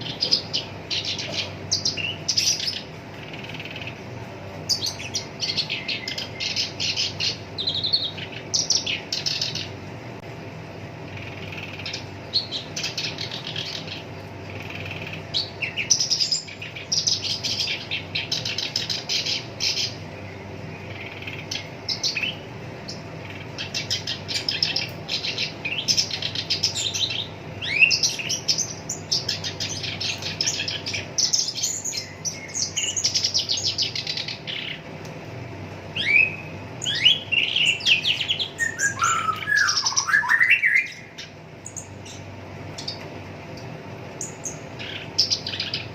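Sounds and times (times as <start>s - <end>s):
bird singing chattering song: 0.0s - 9.9s, 11.0s - 35.0s, 35.9s - 45.9s.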